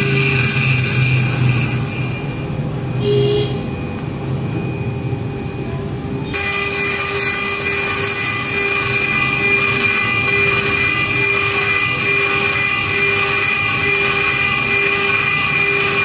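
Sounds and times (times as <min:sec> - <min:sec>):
milling spindle whining: 0:00.0 - 0:03.0, 0:03.6 - 0:16.0.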